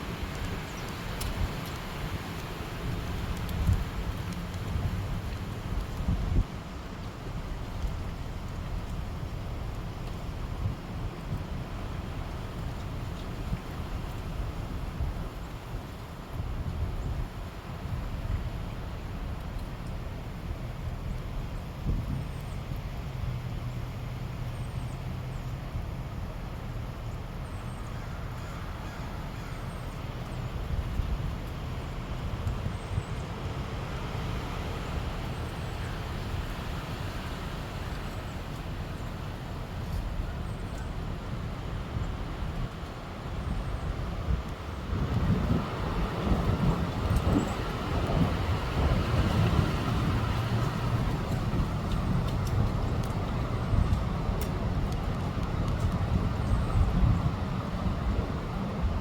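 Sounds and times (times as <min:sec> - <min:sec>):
wind buffeting microphone: 0:00.0 - 0:23.4, 0:30.4 - 0:59.0.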